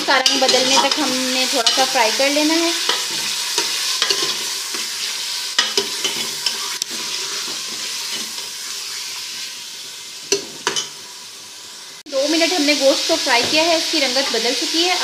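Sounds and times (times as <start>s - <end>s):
meat sizzling in hot fat: 0.0s - 15.0s.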